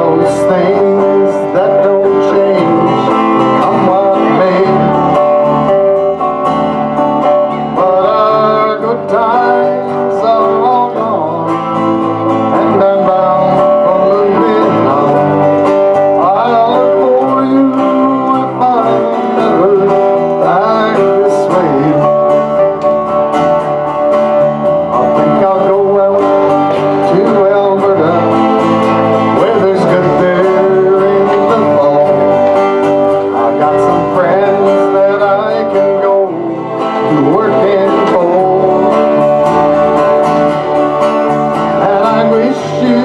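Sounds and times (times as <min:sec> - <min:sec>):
acoustic guitar: 0:00.0 - 0:43.0
person singing: 0:00.0 - 0:43.0.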